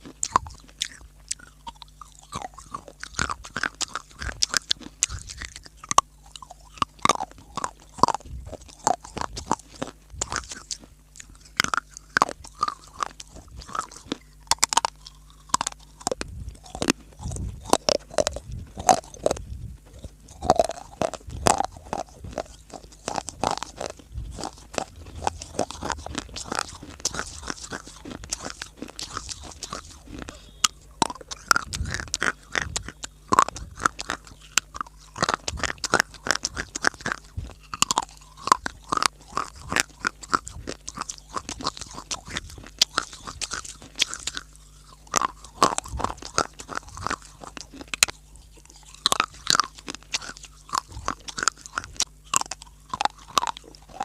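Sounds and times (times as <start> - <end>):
person chewing crunchy clay: 0.0 - 54.0.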